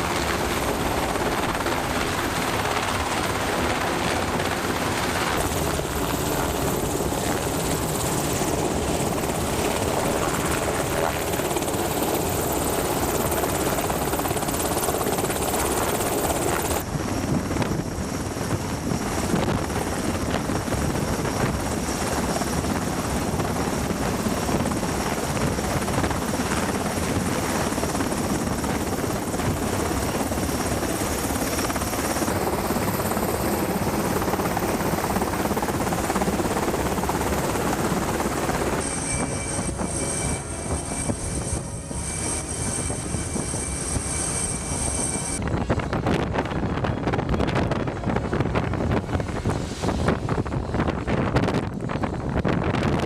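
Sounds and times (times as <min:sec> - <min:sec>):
loud aircraft noise: 0:00.0 - 0:53.0.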